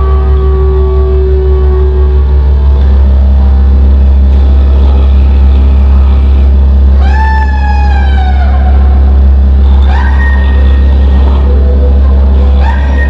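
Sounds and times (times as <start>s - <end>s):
low synthesizer drone: 0.0s - 13.0s.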